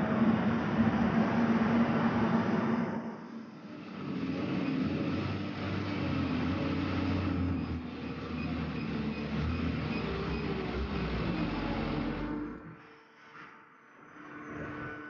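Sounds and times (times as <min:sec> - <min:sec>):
forging manipulator mechanical drone: 0:00.0 - 0:12.8.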